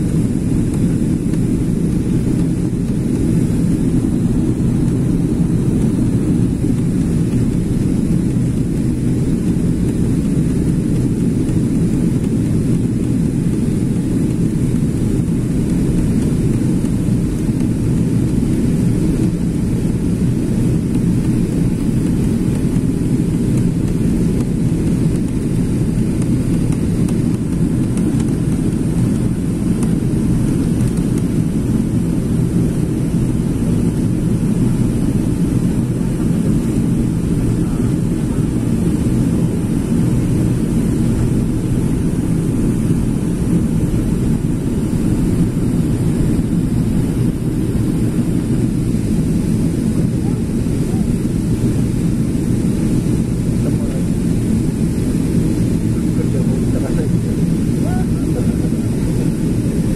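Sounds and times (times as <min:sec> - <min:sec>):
aircraft cabin drone: 0:00.0 - 0:59.9.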